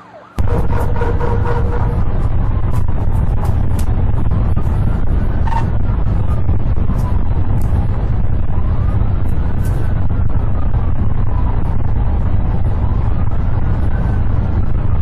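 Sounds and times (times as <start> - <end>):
car engine and road noise: 0.0 - 15.0
police siren wailing: 0.0 - 15.0.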